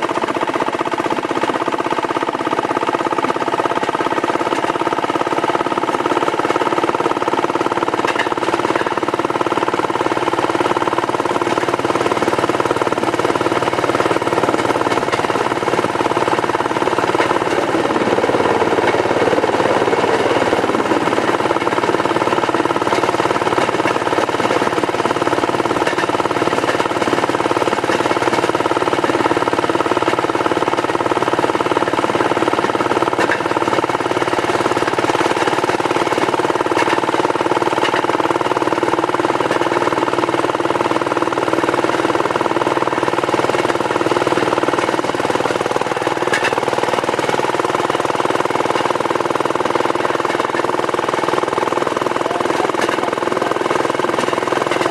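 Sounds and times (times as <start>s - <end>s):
rail car engine running: 0.0s - 54.9s.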